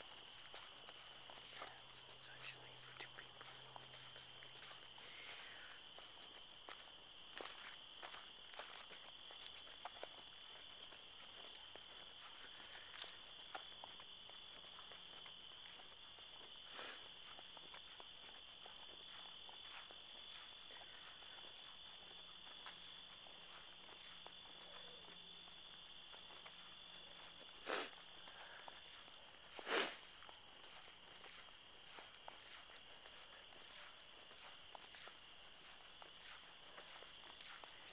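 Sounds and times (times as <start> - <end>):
footsteps on grass: 0.0 - 37.9
insects chirping: 0.0 - 37.9.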